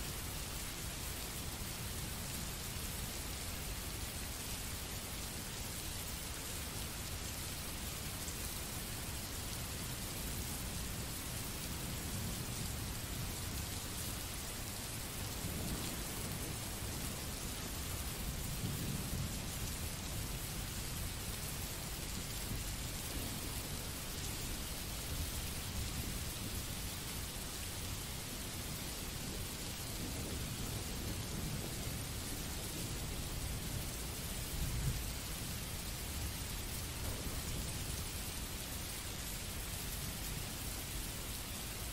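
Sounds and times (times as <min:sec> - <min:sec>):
rain falling steadily: 0:00.0 - 0:41.9.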